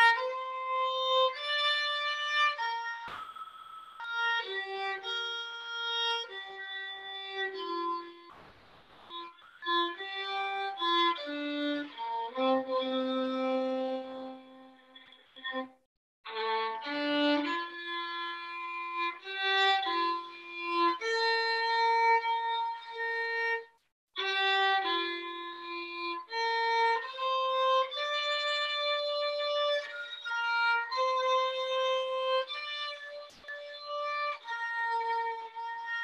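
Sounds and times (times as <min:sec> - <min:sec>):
solo violin melody: 0:00.0 - 0:03.3, 0:03.9 - 0:08.3, 0:09.1 - 0:36.0.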